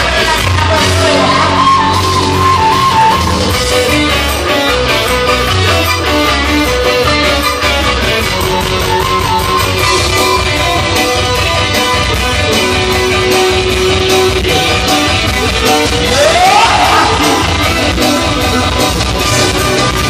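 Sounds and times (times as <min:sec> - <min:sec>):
electric guitar: 0:00.0 - 0:20.0
live band music: 0:00.0 - 0:20.0.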